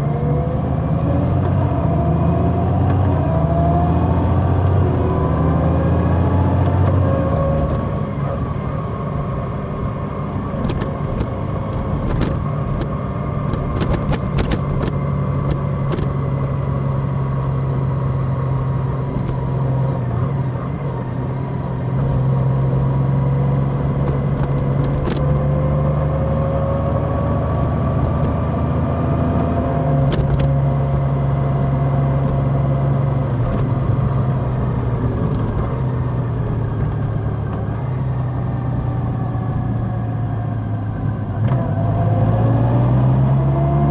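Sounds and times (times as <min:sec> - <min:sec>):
motorcycle engine running: 0:00.0 - 0:42.2
road and wind noise: 0:00.0 - 0:43.9.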